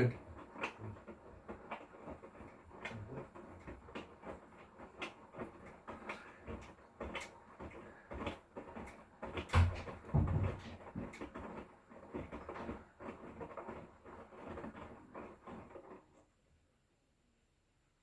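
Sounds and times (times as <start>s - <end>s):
washing machine drum tumbling: 0.0s - 16.2s.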